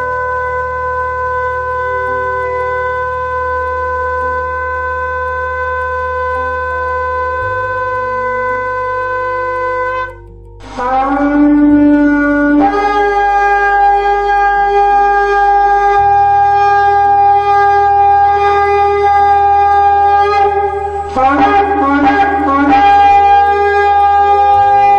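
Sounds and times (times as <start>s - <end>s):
shofar blasts: 0.0s - 24.9s.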